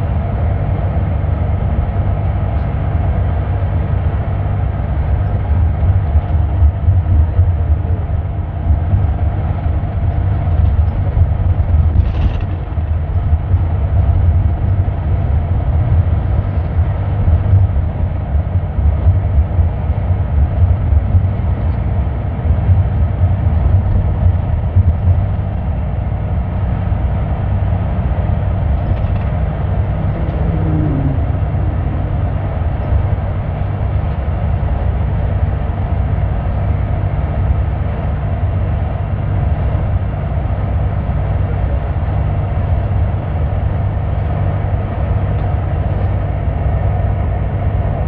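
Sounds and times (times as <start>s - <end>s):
vehicle engine and tyre noise: 0.0s - 48.0s.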